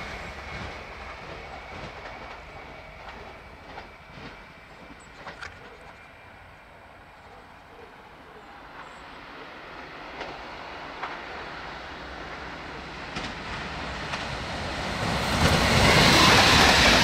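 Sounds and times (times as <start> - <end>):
train rumble and rail hiss: 0.0 - 17.0.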